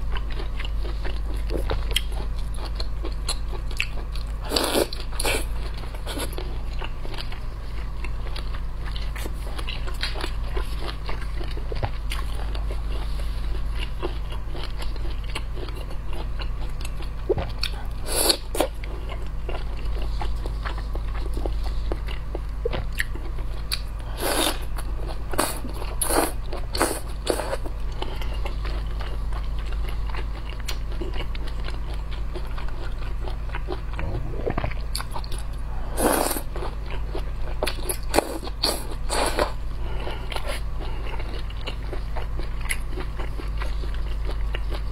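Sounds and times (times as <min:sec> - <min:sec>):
person chewing shrimp: 0:00.0 - 0:44.9.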